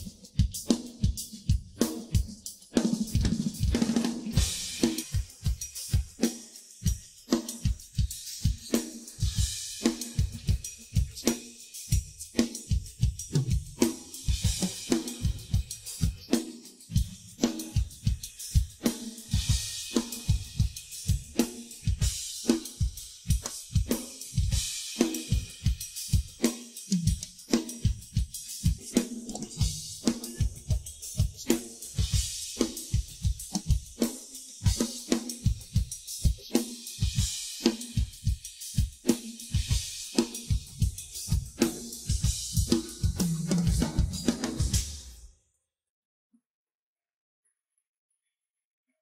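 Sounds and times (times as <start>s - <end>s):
drum kit groove: 0.0s - 45.3s
hi-hat and cymbals: 0.0s - 45.3s.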